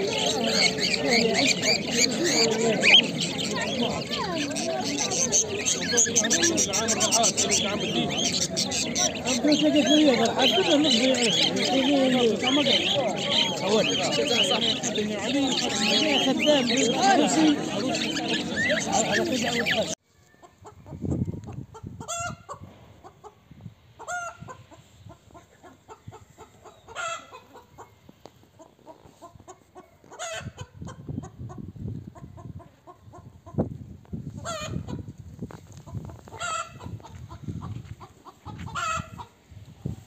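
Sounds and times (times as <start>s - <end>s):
chickens squawking: 0.0s - 20.9s, 21.7s - 23.4s, 24.0s - 28.0s, 28.6s - 33.7s, 34.4s - 35.1s, 35.8s - 39.4s.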